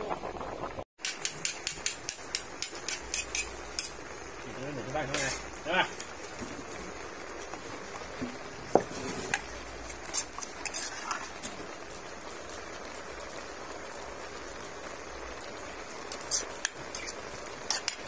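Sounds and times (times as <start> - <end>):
pot boiling and bubbling: 0.0 - 18.0.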